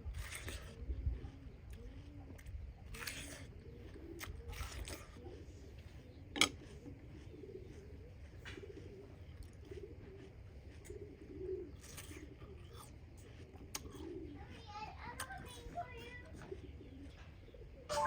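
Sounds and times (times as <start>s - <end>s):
doves cooing: 0.0s - 18.0s.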